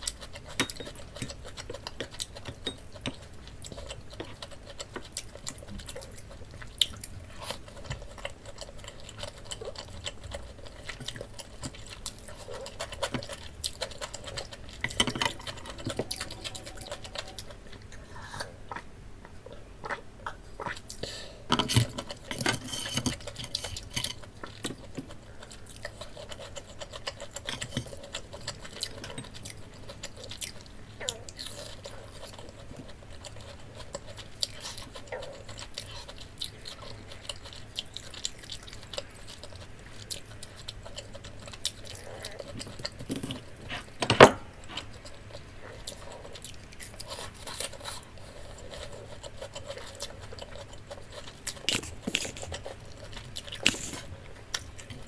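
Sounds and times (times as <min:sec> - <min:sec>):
chewing crispy food: 0:00.0 - 0:55.0.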